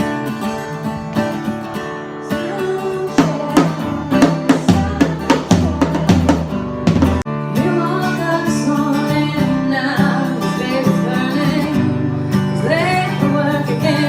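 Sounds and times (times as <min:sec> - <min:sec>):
live folk-rock band playing: 0:00.0 - 0:14.0.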